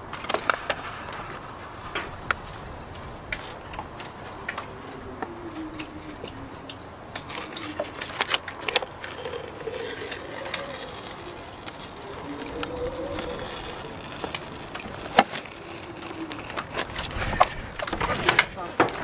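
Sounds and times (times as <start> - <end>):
faint hum: 0.0 - 18.6
paper tape crackling as peeled: 0.0 - 19.0.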